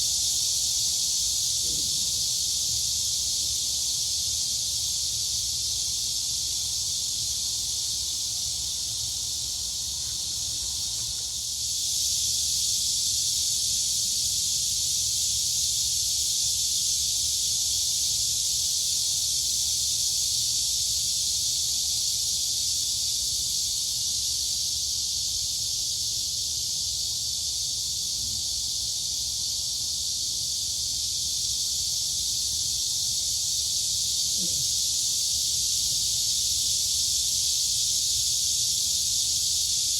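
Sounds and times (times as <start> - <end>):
crickets and cicadas buzzing: 0.0 - 39.9.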